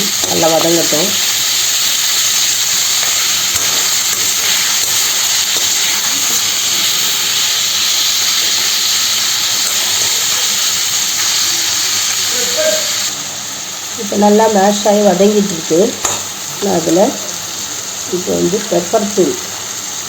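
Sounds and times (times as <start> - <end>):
tomatoes sizzling in hot oil: 0.0 - 20.0.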